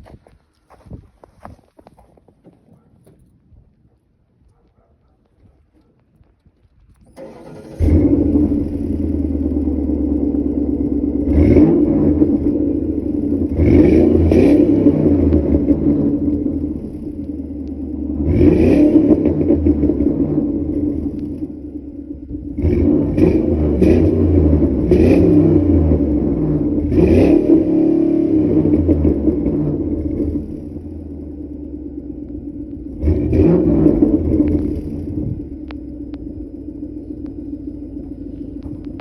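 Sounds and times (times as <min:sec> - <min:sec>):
car exhaust idling and revving: 0:07.2 - 0:39.0.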